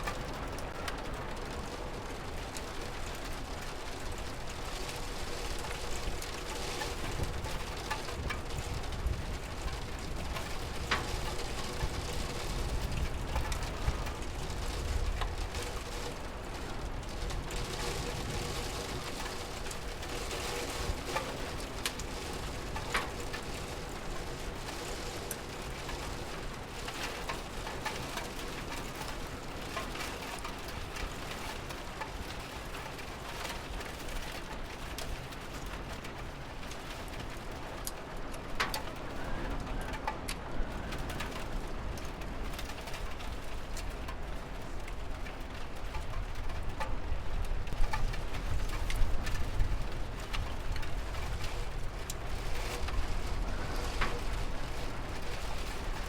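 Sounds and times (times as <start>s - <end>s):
steady rain: 0.0s - 56.0s
drip-like ticks: 5.6s - 16.1s, 16.9s - 52.2s.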